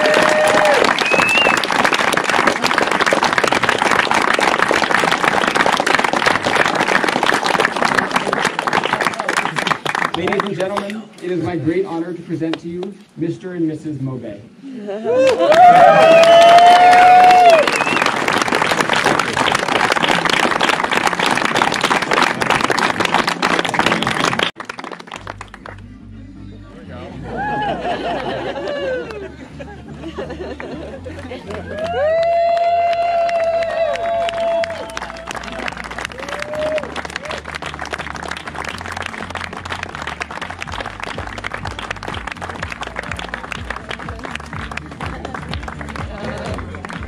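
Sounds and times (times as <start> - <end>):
people applauding: 0.0 - 11.0, 15.1 - 25.9, 27.4 - 29.3, 30.3 - 47.0.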